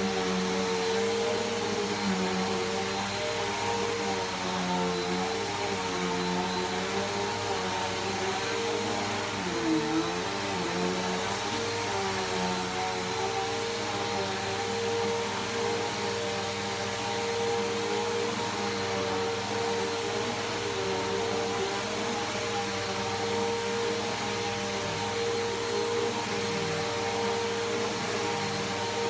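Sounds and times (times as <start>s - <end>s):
upright vacuum cleaner running: 0.0s - 29.0s.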